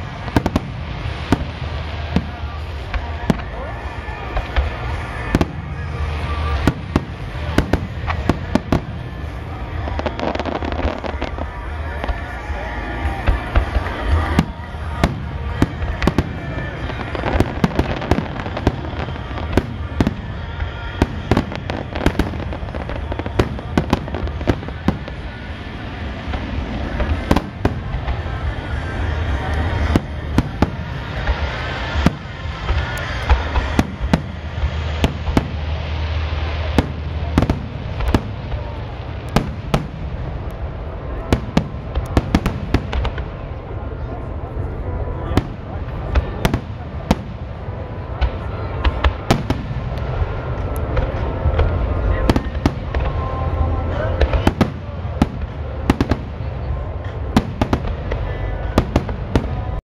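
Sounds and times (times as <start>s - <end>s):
fireworks bursting with sharp bangs: 0.0s - 59.8s
steady low rumble: 0.0s - 59.8s.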